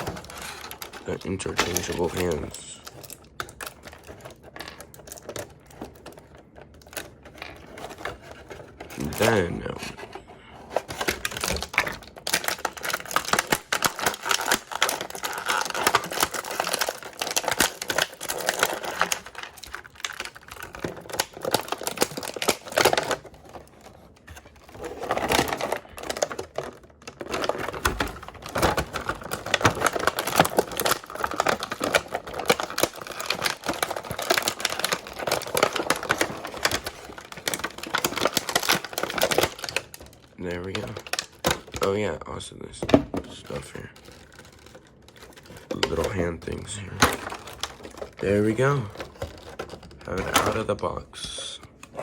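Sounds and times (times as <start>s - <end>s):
plastic packaging clicks and rustles: 0.0s - 52.0s.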